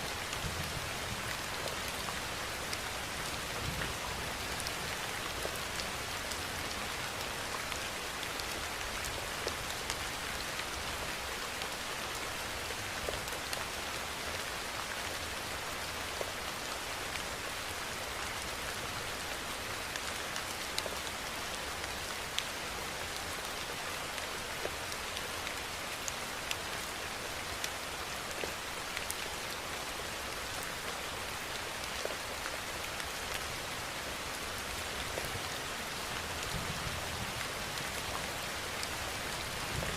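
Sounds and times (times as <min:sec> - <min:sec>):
rain hissing on surfaces: 0:00.0 - 0:39.9.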